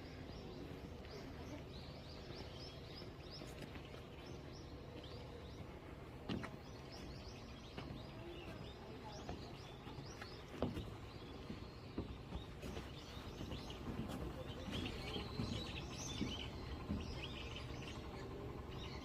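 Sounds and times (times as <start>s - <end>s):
faint background rumble: 0.0s - 19.0s
songbirds chirping: 0.0s - 19.0s.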